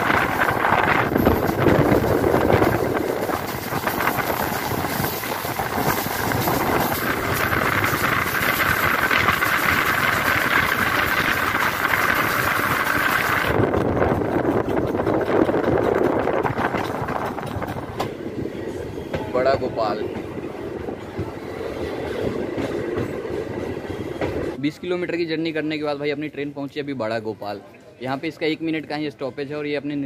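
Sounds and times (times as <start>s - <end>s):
wheels rumbling on rails: 0.0s - 24.6s
wind rushing past microphone: 0.0s - 24.6s.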